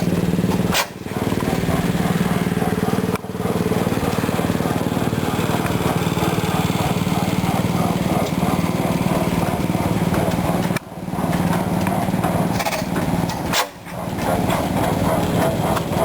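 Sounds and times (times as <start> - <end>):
engine rhythmic mechanical clatter: 0.0 - 16.0.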